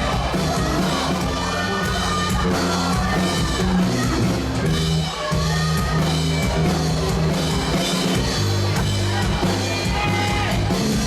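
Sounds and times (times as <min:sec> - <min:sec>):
bass guitar: 0:00.0 - 0:11.0
drum kit: 0:00.0 - 0:11.0.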